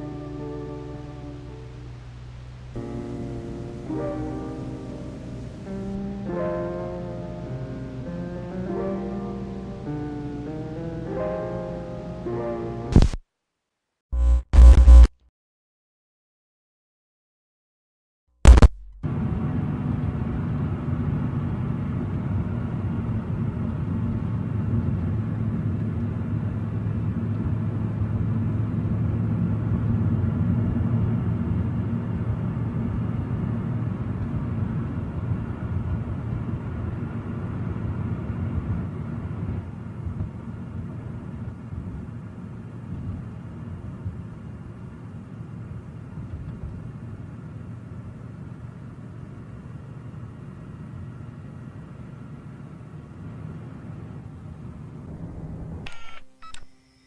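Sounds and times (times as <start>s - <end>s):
low rumble with faint hum: 0.0s - 12.2s, 18.5s - 56.6s.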